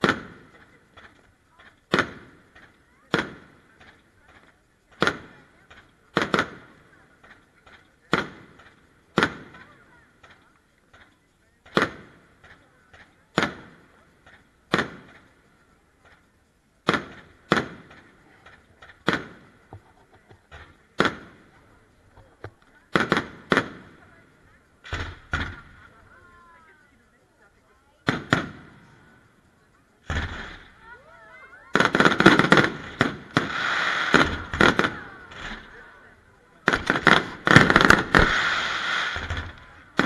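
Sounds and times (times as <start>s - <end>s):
firework shells bursting: 0.0s - 26.1s, 28.0s - 40.0s.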